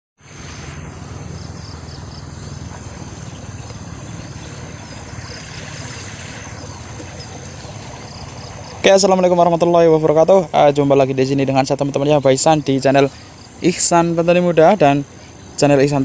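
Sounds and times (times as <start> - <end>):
low rumble: 0.2 - 15.8
faint chirps: 0.2 - 16.0
insects trilling: 0.2 - 16.0.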